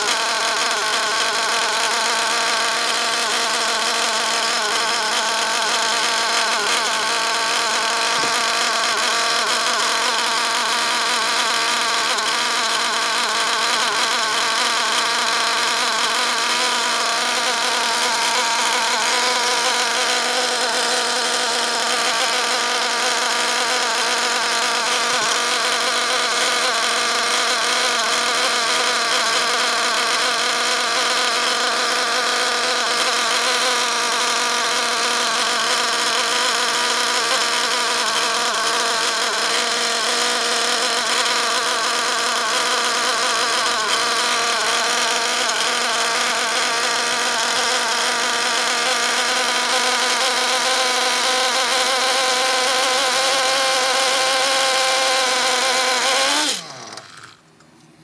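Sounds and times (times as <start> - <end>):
model engine high buzz: 0.0 - 57.6.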